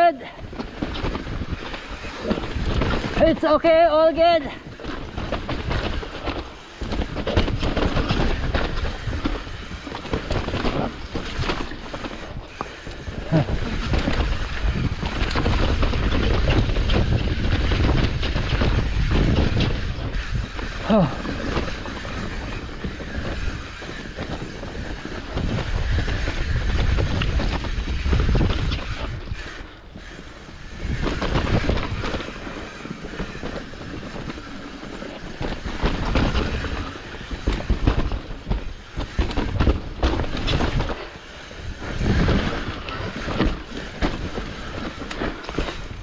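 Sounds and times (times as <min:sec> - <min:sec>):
bike rattling over bumps: 0:00.0 - 0:46.0
mountain bike rolling rumble: 0:00.0 - 0:46.0.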